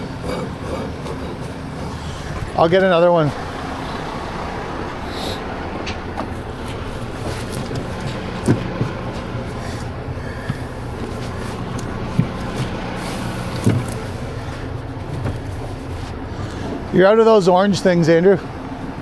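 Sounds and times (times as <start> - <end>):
sharp knocks and clanks: 0.0 - 5.0, 5.7 - 16.1
diesel truck engine idling: 0.0 - 19.0.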